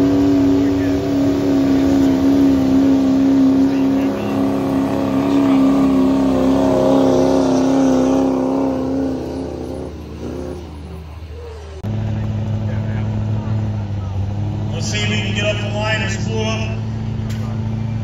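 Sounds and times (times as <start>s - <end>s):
diesel truck engine straining: 0.0s - 18.0s.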